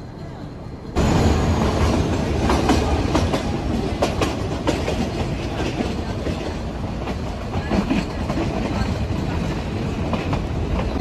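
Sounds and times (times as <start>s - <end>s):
train rumbling on track: 0.0s - 11.0s
wheels clacking over rail joints: 1.0s - 11.0s.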